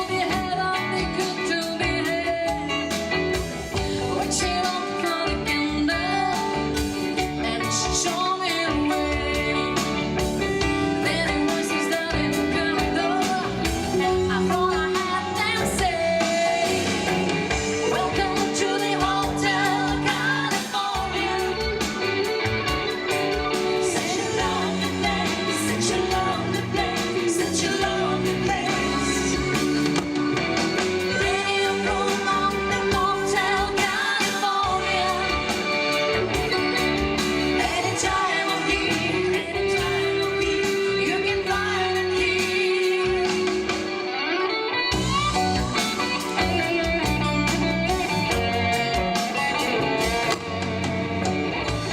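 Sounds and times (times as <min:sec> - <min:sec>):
live pop-rock band playing: 0:00.0 - 0:51.9
woman singing lead: 0:00.0 - 0:51.9.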